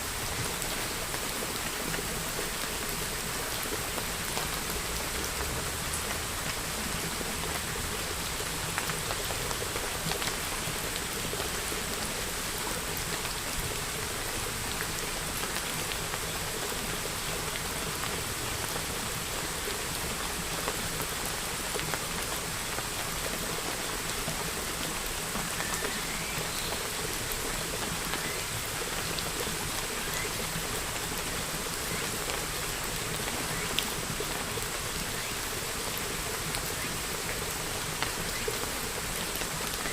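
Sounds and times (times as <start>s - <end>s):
raindrops ticking on a surface: 0.0s - 39.9s
steady rainfall: 0.0s - 39.9s.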